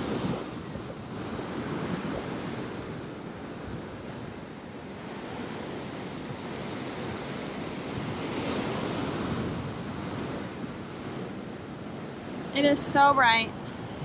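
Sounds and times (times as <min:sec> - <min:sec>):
surf washing onto a beach: 0:00.0 - 0:14.0
wave breaking: 0:00.0 - 0:14.0
wind on the microphone: 0:00.0 - 0:14.0.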